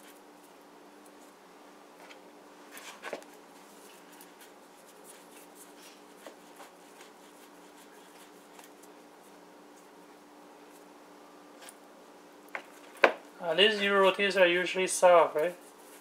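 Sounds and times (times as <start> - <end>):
hands rustling and patting dough: 0.0 - 11.8, 14.1 - 16.0
steady low hum: 0.0 - 16.0.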